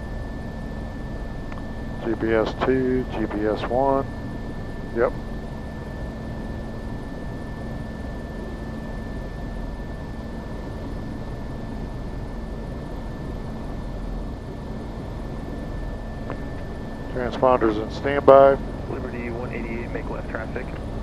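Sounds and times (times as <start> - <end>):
helicopter engines running: 0.0 - 21.0
high-pitched engine whine: 0.0 - 21.0.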